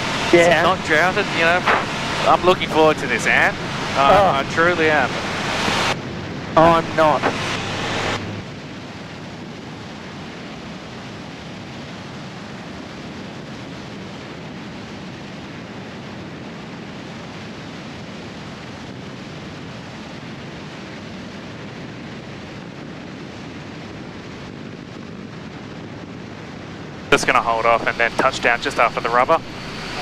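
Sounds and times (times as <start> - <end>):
light aircraft engine drone: 0.0 - 30.0
wind rush: 0.0 - 30.0.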